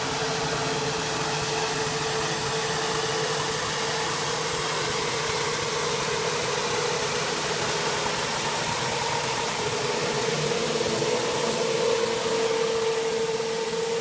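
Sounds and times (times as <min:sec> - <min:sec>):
pressure washer engine drone: 0:00.0 - 0:14.0.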